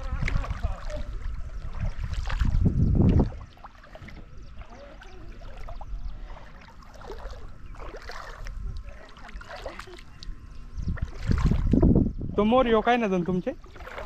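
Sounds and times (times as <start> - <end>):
river water sloshing and splashing: 0.0 - 10.4, 11.0 - 11.9, 13.6 - 14.0
water trickling: 0.0 - 14.0.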